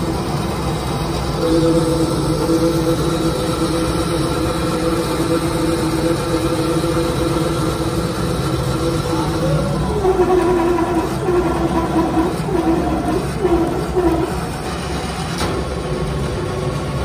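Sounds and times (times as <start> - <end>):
pump motor humming and whining: 0.0 - 17.0.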